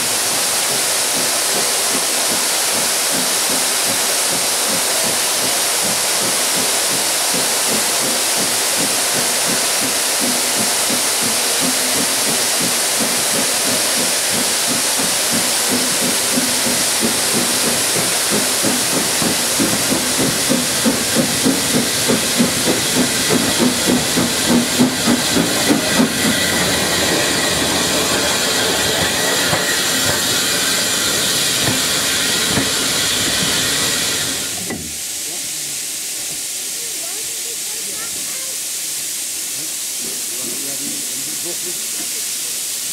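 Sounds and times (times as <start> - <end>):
rhythmic locomotive beat: 0.0 - 35.5
steam hissing: 0.0 - 42.9.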